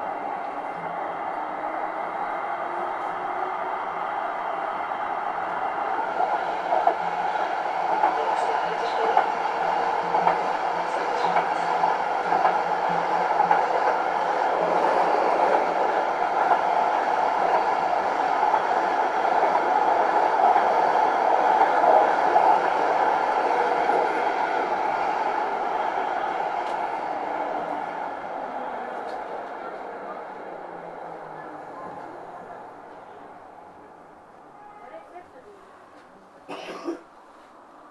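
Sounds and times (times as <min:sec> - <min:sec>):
tram wheels rumbling on rails: 0:00.0 - 0:33.9.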